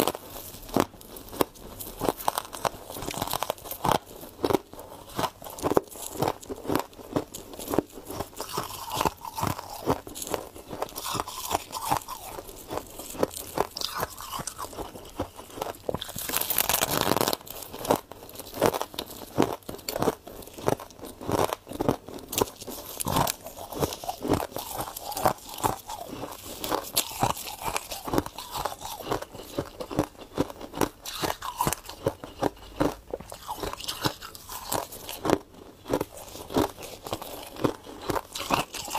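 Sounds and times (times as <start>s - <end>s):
chewing ice crunches: 0.0s - 38.9s.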